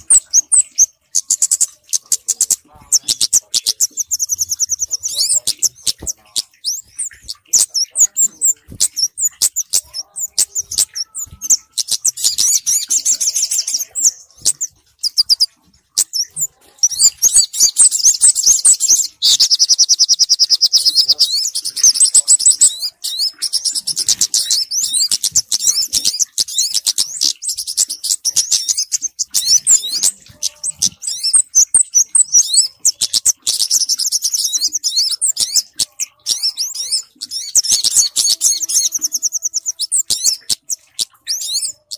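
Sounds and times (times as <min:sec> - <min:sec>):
high-pitched bird chirps and trills: 0:00.0 - 0:41.9.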